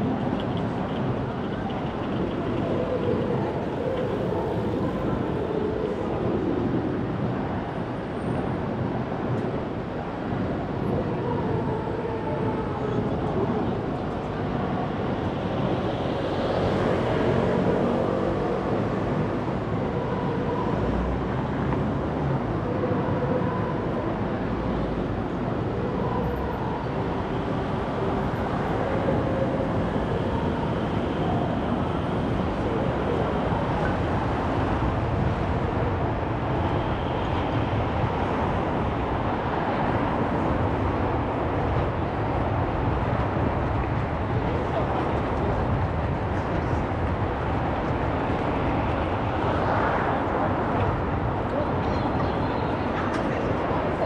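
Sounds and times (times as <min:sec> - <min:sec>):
vehicle engines and tyre noise: 0:00.0 - 0:54.0.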